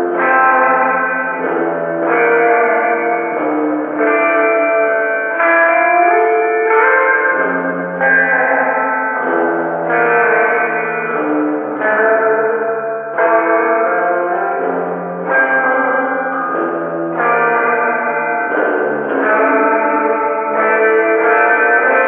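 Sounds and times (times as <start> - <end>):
electric guitar chords with reverb: 0.0 - 22.0.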